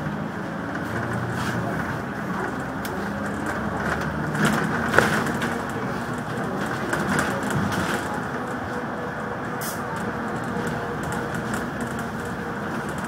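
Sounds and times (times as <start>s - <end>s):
bus running noise: 0.0s - 13.0s
knocks and rattles of bus fittings: 0.6s - 13.0s.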